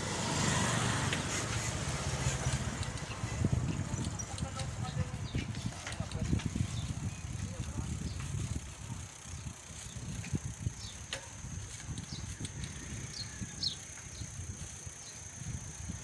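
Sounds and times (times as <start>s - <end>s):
wind rumbling on microphone: 0.7s - 16.0s.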